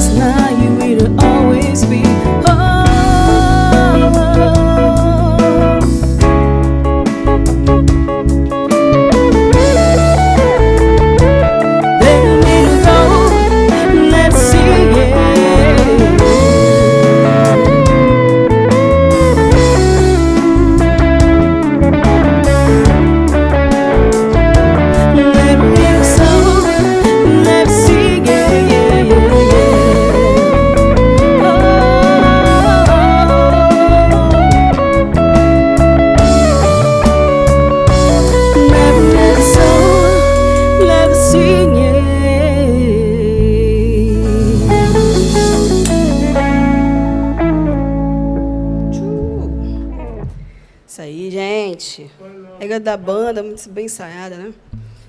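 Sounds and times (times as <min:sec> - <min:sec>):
percussion: 0:00.0 - 0:41.7, 0:44.1 - 0:47.5
lead guitar melody: 0:00.0 - 0:50.8
bass: 0:00.0 - 0:50.9, 0:54.6 - 0:55.0
live band music: 0:00.0 - 0:50.9, 0:54.6 - 0:55.0.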